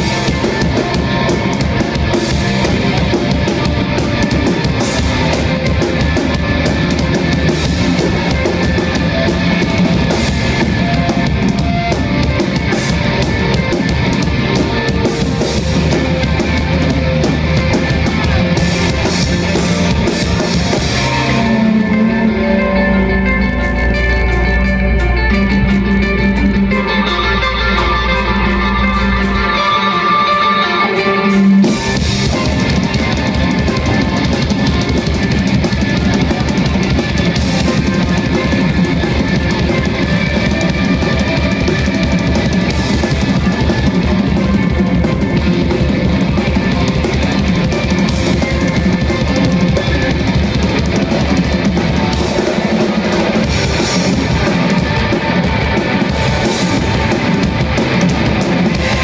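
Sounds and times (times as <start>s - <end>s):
drum kit: 0.0s - 59.0s
electric guitars: 0.0s - 59.0s
low drone: 0.0s - 59.0s.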